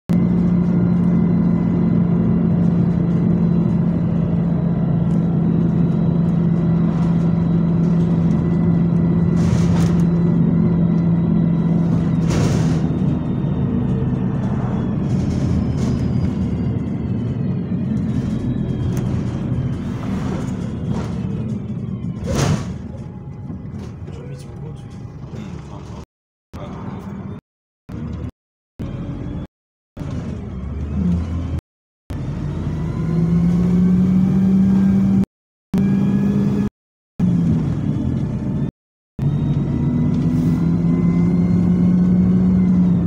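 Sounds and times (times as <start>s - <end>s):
bus engine hum: 0.1s - 43.0s
drivetrain whine: 0.1s - 43.0s.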